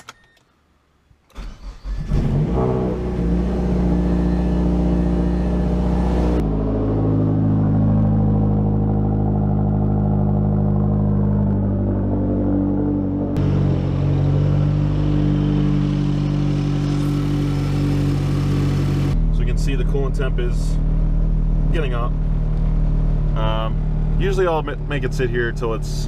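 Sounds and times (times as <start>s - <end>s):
car engine starting and idling: 0.0s - 26.0s.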